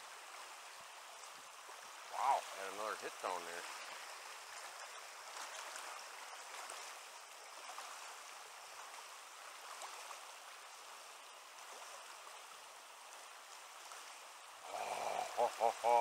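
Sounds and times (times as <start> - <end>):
river current over rocks: 0.0 - 16.0.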